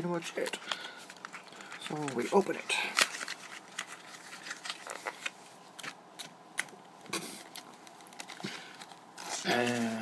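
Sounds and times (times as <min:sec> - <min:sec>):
cardboard packet clicks and rustles: 0:00.1 - 0:10.0.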